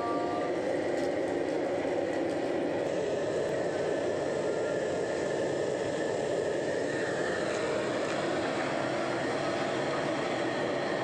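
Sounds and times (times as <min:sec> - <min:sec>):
forced-air burner roaring: 0:00.0 - 0:11.0.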